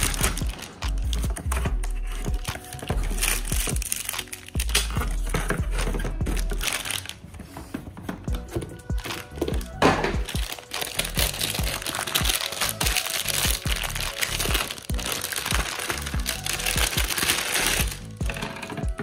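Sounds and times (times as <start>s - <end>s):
plastic bag crinkling: 0.0s - 7.6s, 8.5s - 18.8s
background music with steady beat: 0.0s - 19.0s.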